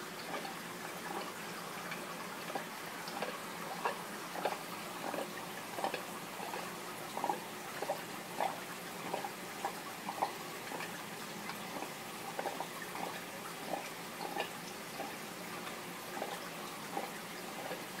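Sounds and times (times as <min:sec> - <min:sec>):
aquarium water bubbling: 0:00.0 - 0:18.0.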